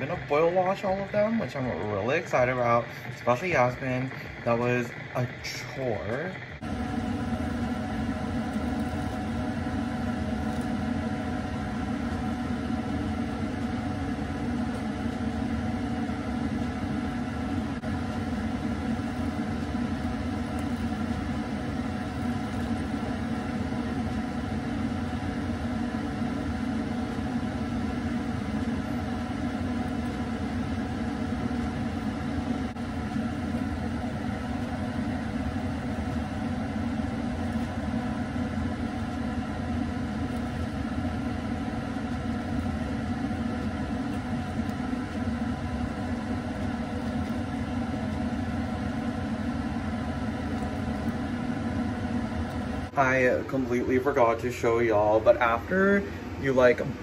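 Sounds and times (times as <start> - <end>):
fan motor hum: 0.0 - 57.0.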